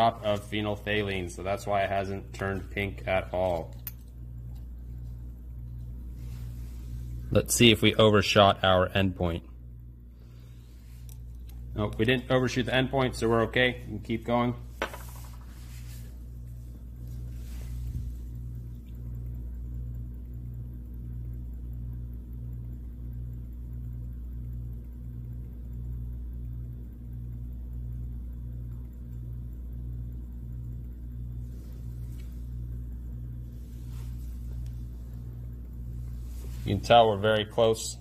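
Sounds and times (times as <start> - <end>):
stir plate humming with pulse: 0.0 - 7.5, 9.6 - 38.0.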